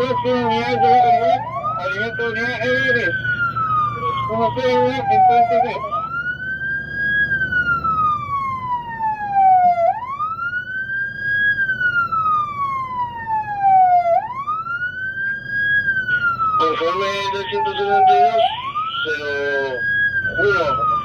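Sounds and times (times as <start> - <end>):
fire engine siren wailing: 0.0 - 21.0.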